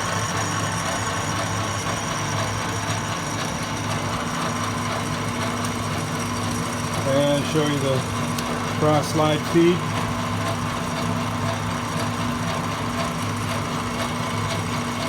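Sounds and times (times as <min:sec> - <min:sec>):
metal lathe running: 0:00.0 - 0:15.0.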